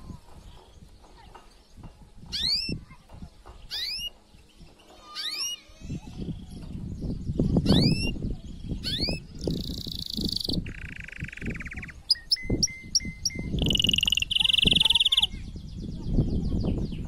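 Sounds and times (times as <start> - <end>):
canary singing: 0.1 - 15.4.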